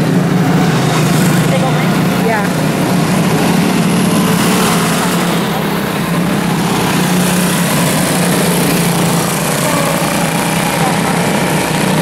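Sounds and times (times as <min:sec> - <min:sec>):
small race car engines buzzing: 0:00.0 - 0:12.0.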